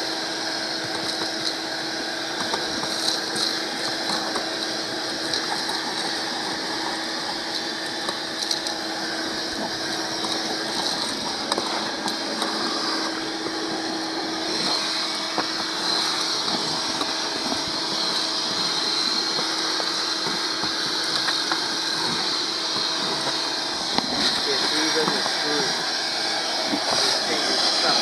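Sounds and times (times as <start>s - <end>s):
shop vacuum whining: 0.0s - 28.0s.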